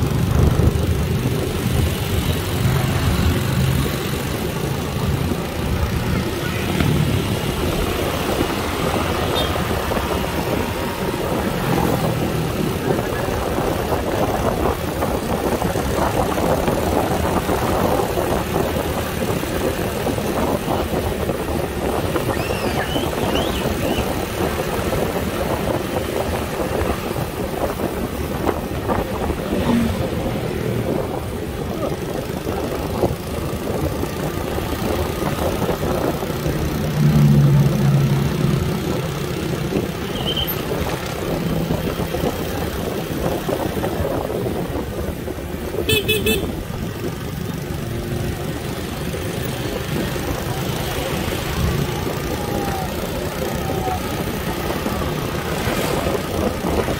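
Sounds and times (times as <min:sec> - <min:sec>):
motorcycle engines: 0:00.0 - 0:56.9
road and wind noise: 0:00.0 - 0:56.9.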